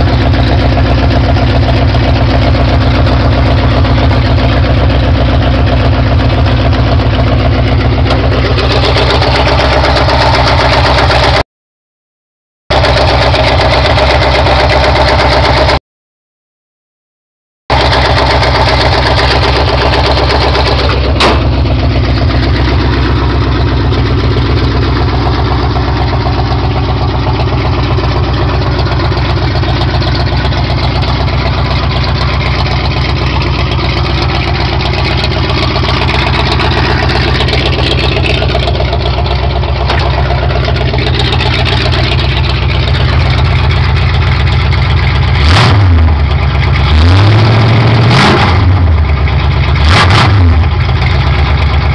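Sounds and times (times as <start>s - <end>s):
car engine idling and revving: 0.0s - 11.4s, 12.7s - 15.8s, 17.7s - 51.9s.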